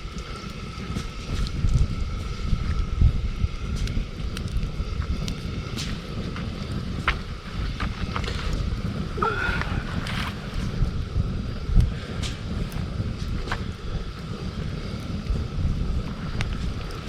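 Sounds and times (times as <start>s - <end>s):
campfire crackling: 0.0s - 17.0s
wind rumble on microphone: 0.0s - 17.0s.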